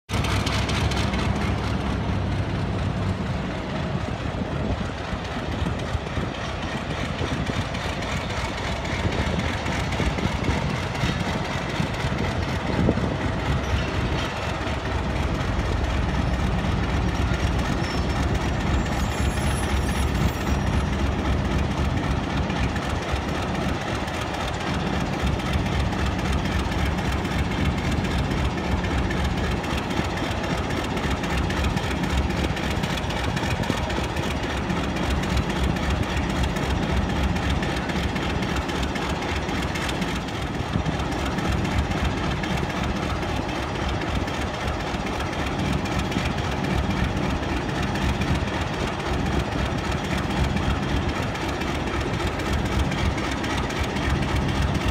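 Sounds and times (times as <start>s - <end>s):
diesel locomotive engine hum: 0.0s - 54.9s
train coaches rumbling on rails: 0.0s - 54.9s.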